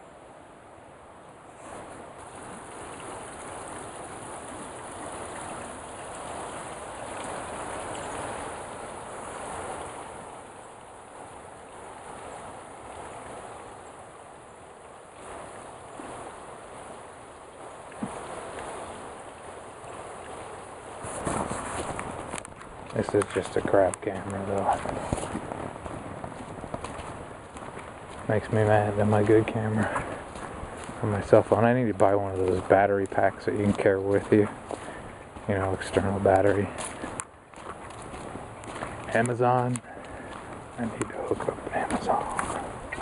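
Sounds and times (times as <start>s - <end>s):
creek water rushing: 0.0s - 43.0s.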